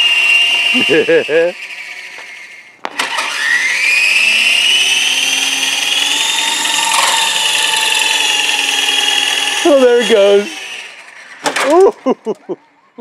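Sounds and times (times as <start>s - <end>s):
helicopter motor whine: 0.0s - 11.7s.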